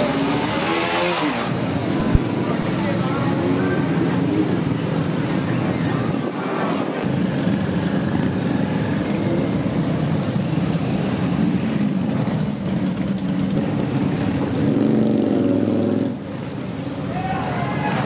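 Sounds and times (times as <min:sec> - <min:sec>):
many motorcycle engines droning: 0:00.0 - 0:18.0.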